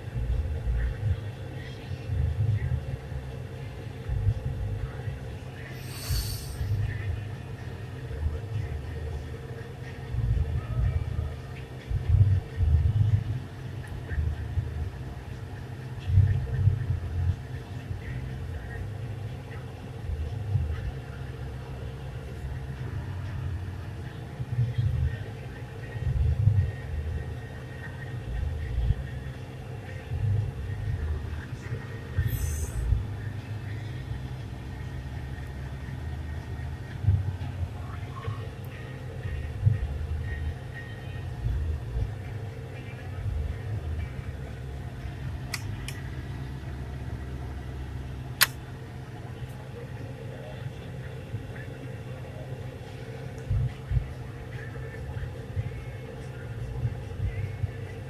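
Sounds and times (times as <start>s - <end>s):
motor vehicle rumble: 0.0s - 58.0s.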